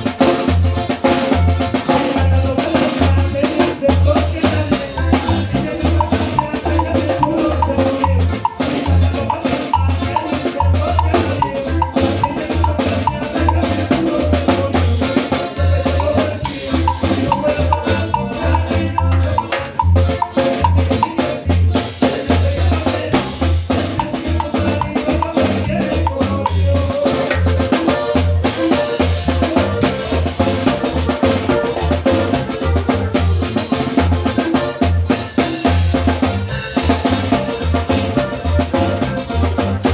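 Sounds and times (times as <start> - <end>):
bass: 0.0 - 39.9
drums: 0.0 - 39.9
sustained melody line: 3.2 - 21.5, 24.0 - 39.9.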